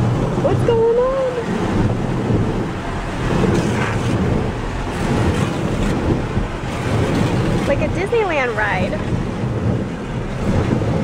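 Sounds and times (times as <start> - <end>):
car wash water spray: 0.0 - 11.0.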